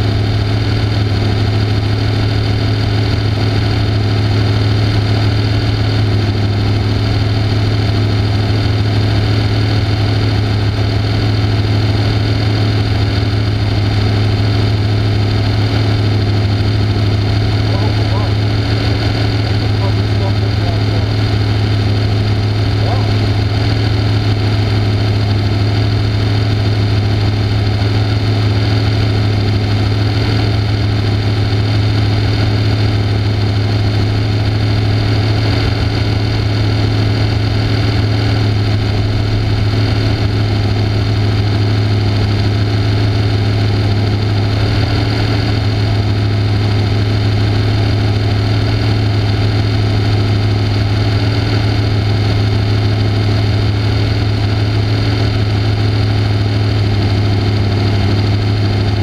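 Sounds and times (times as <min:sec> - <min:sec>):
race car engine idling: 0:00.0 - 0:59.0.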